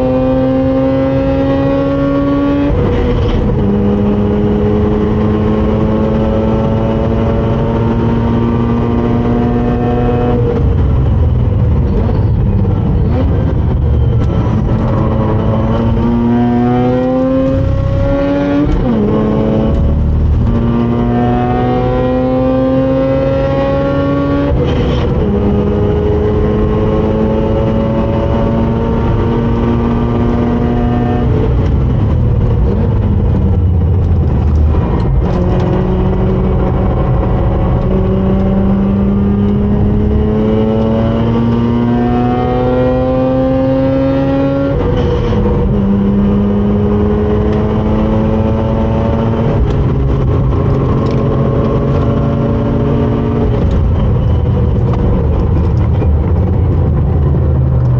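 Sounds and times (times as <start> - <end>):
road and wind noise: 0.0 - 57.9
rotary engine accelerating: 0.0 - 57.9.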